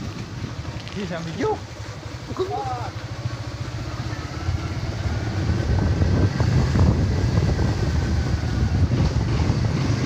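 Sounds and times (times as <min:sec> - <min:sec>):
motorcycle engine running: 0:00.0 - 0:10.0
wind buffeting microphone: 0:00.0 - 0:10.0.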